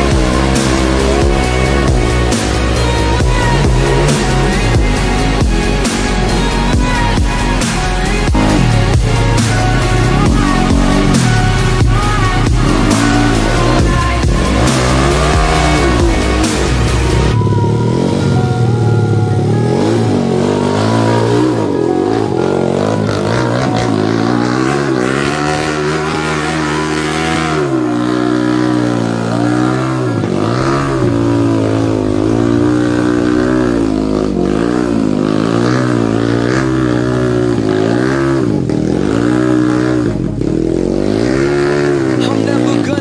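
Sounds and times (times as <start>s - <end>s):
motorcycle engine revving hard: 0.0s - 43.0s.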